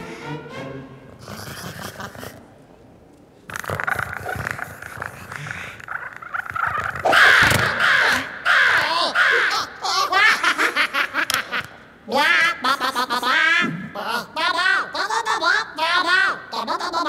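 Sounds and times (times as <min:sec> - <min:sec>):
rapid choppy cartoon laughter: 0:01.2 - 0:02.5, 0:03.6 - 0:08.2, 0:08.8 - 0:17.0.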